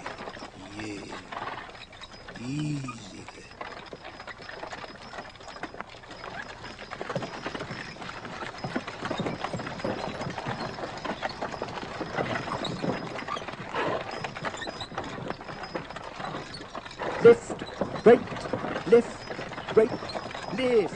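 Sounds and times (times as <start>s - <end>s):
horse hooves clip-clopping: 0.0s - 20.9s.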